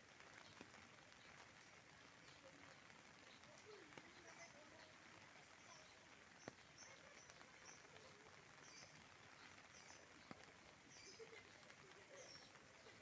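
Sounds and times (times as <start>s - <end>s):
light rain hiss: 0.0s - 13.0s.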